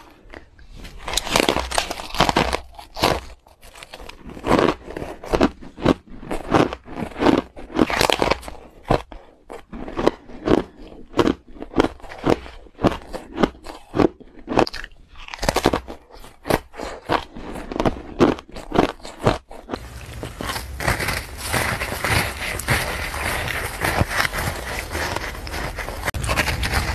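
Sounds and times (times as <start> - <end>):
ice crunching while chewed: 0.0 - 26.9.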